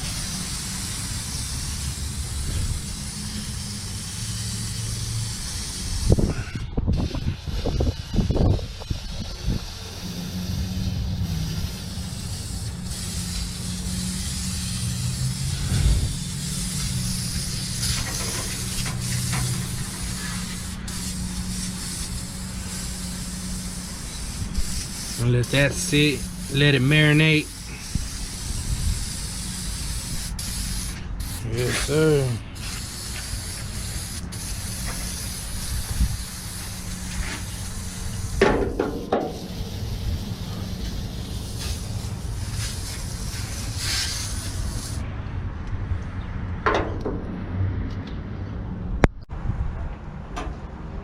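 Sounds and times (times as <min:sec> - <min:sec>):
steady hissing noise: 0:00.0 - 0:06.3, 0:07.0 - 0:45.0
aerosol can spraying: 0:00.0 - 0:06.4, 0:07.4 - 0:45.0.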